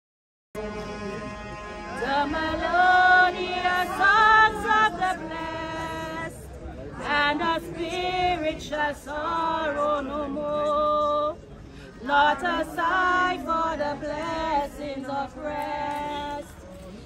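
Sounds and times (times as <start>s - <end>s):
group singing a hymn: 0.6s - 11.4s, 12.0s - 16.6s.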